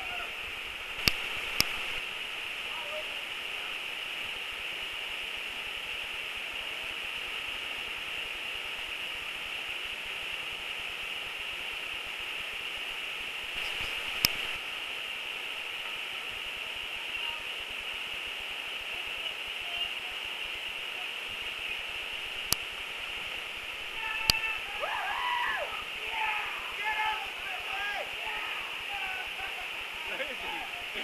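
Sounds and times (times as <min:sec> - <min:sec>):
waterfall rushing over rock: 0:00.0 - 0:31.0.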